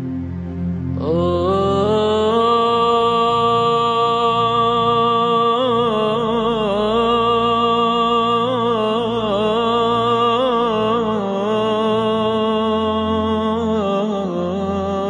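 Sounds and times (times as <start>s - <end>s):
low drone: 0.0s - 15.0s
ornamented sung melody: 0.0s - 15.0s.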